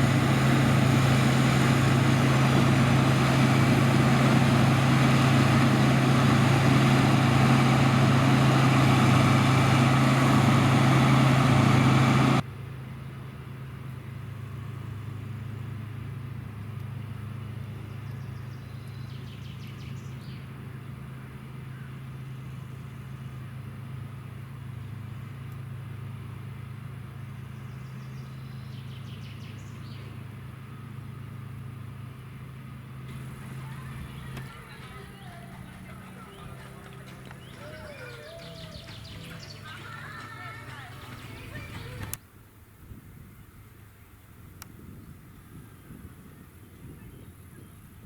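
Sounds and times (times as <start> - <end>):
machinery engine drone: 0.0 - 42.4.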